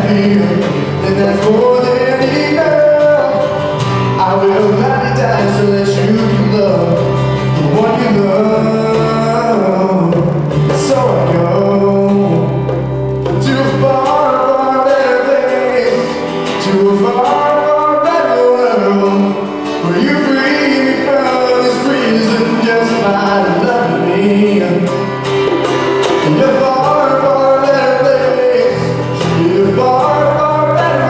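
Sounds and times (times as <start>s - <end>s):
male voices singing: 0.0s - 25.2s, 25.9s - 31.0s
electric bass: 0.0s - 31.0s
strummed acoustic guitar: 0.0s - 31.0s.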